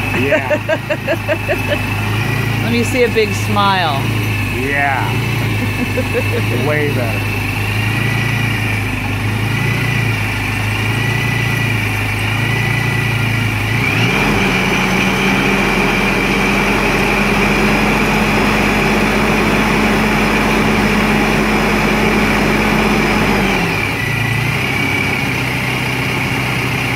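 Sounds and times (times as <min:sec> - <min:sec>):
truck engine idling and revving: 0:00.0 - 0:26.9.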